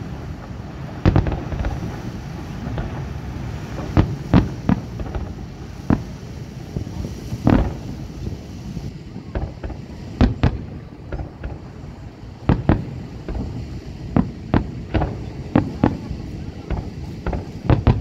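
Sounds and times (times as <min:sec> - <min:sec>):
firework shells bursting: 0:00.0 - 0:18.0.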